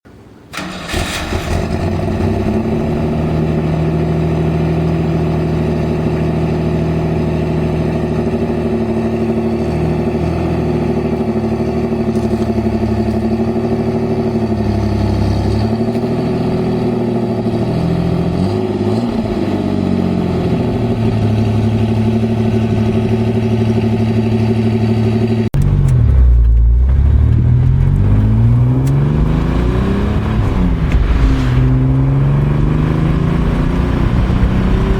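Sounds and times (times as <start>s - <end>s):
car engine idling and revving: 0.6s - 34.9s.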